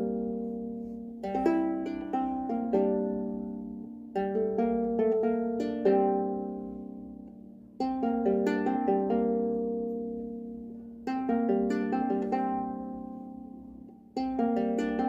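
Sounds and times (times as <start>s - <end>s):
lyre strings plucked: 0.0s - 15.0s.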